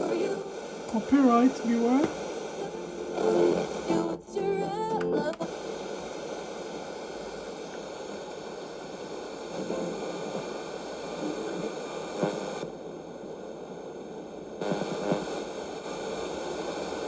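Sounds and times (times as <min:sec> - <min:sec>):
faint radio signal: 0:00.0 - 0:17.0
radio static hiss: 0:00.0 - 0:17.0.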